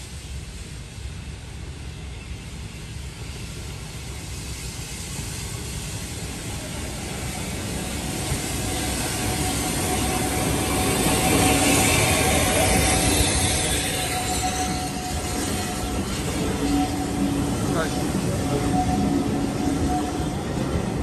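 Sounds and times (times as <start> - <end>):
steam train passing: 0.0 - 21.0.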